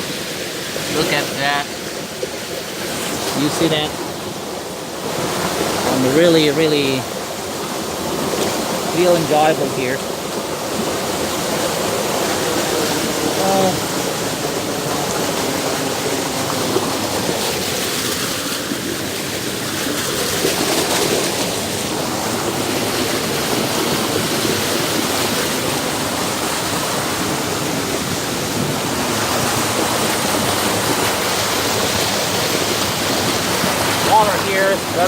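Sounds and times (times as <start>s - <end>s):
creek rushing over rocks: 0.0s - 35.0s.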